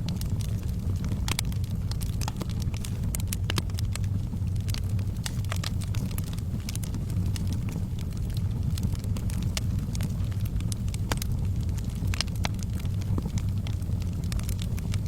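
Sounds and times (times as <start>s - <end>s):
burning logs crackling: 0.0s - 15.0s
fire flames rumbling: 0.0s - 15.0s.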